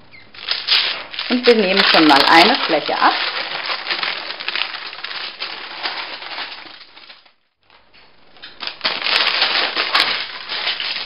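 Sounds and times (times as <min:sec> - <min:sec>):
baking paper crinkling: 0:00.4 - 0:11.0.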